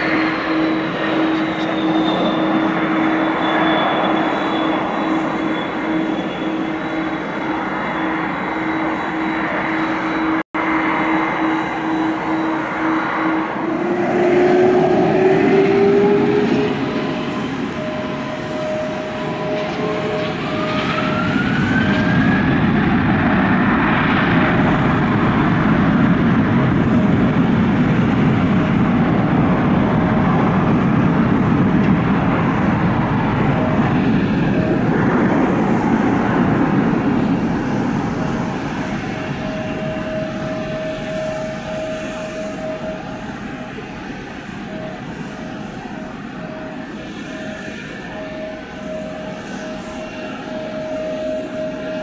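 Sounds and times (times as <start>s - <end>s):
jet airliner taking off: 0.0s - 52.0s.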